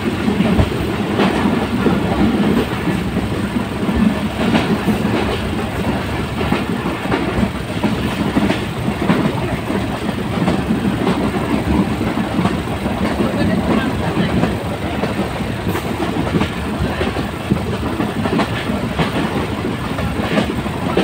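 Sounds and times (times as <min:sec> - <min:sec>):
train rumbling on track: 0:00.0 - 0:21.0
wheels clicking over rail joints: 0:00.0 - 0:21.0.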